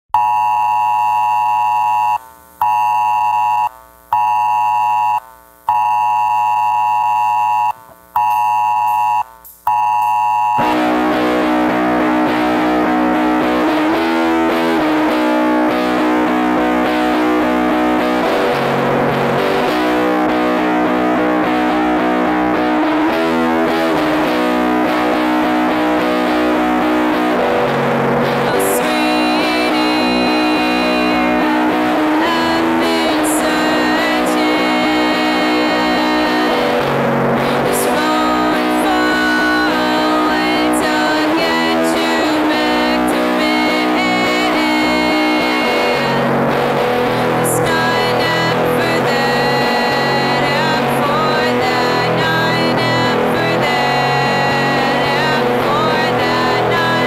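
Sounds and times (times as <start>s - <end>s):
buzzing held chord: 10.6s - 57.0s
punk rock band: 10.6s - 57.0s.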